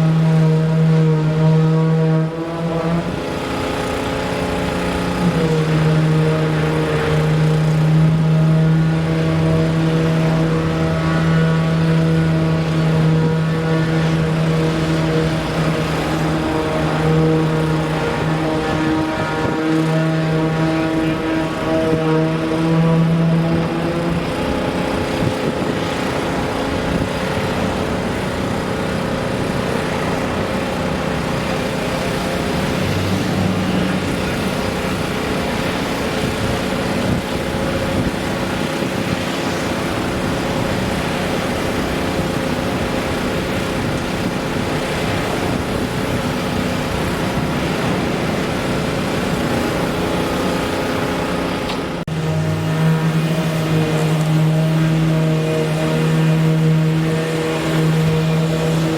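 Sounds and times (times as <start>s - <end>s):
motor engine humming: 0.0s - 58.9s.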